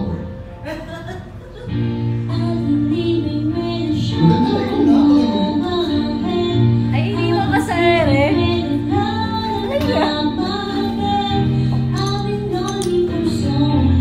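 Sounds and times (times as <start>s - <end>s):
instrumental accompaniment: 1.2s - 14.0s
woman singing into a microphone: 2.3s - 14.0s.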